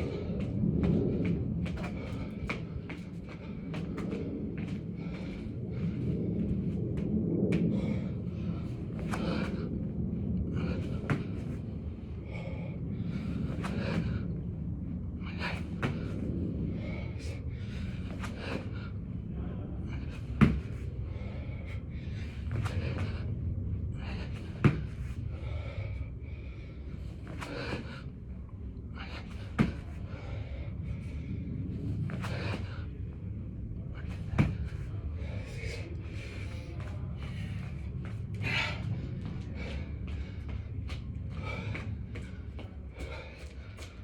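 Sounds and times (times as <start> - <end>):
man breathing hard: 0.0 - 44.0.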